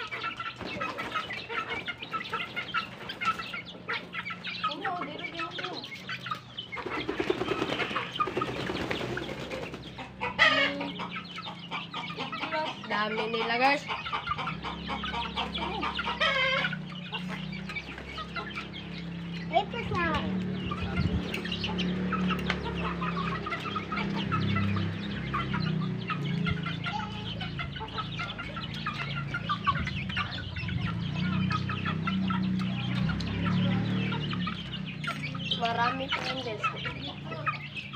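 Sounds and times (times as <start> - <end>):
chicken squawk: 0.0 - 37.9
chickens clucking: 0.0 - 37.9.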